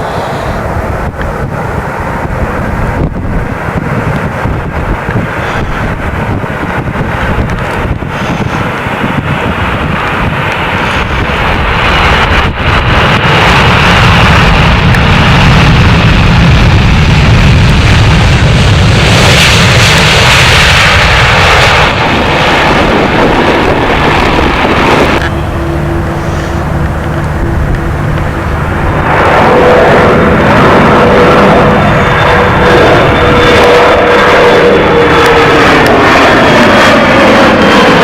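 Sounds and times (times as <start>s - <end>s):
jet airliner engine rush: 0.0s - 38.0s.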